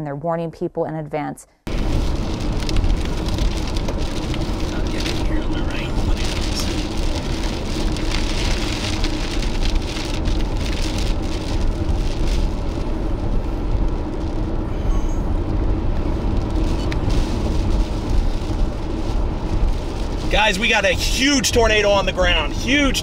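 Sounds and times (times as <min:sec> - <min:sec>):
rain pattering: 0:01.7 - 0:23.0
storm wind rumble: 0:01.7 - 0:23.0.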